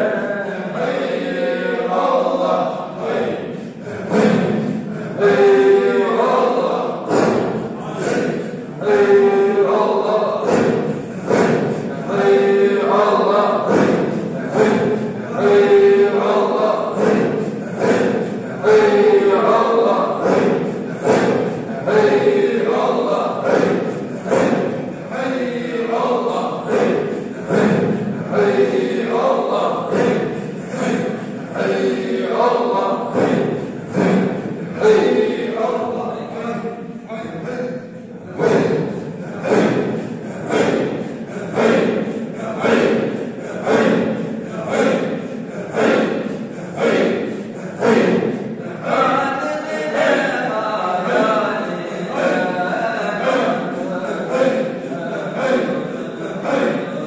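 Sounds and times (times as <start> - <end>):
men chanting together: 0.0 - 57.0.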